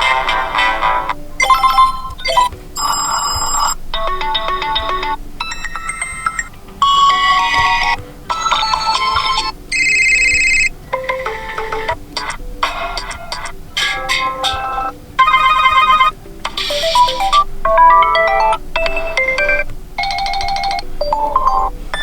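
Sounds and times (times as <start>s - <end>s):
phone ringtone melodies: 0.0s - 22.0s.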